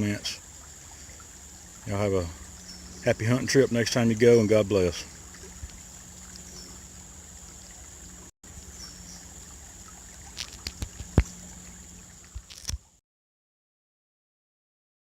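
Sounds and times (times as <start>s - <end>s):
creek trickling: 0.0s - 13.0s.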